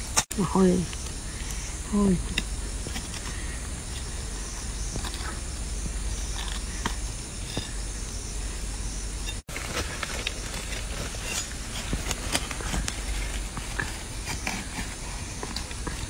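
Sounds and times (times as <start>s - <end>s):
insects calling: 0.0s - 16.0s.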